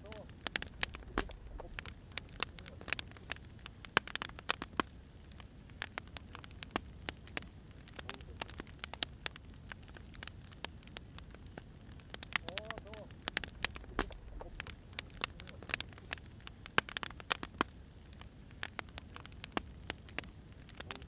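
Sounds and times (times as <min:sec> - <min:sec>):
firewood crackling: 0:00.0 - 0:21.0.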